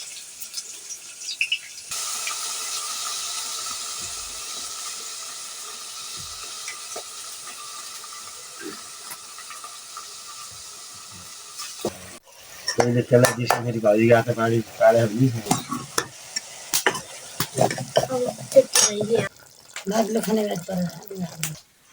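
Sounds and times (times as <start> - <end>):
pan hissing and sizzling: 0.0 - 21.9.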